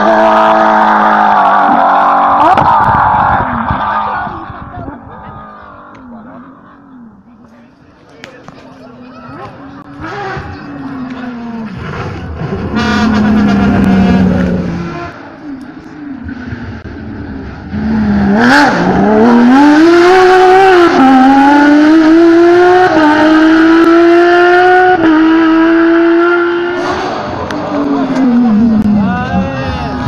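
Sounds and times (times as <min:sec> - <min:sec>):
rally car engine at full throttle: 0:00.0 - 0:07.6, 0:08.4 - 0:30.0.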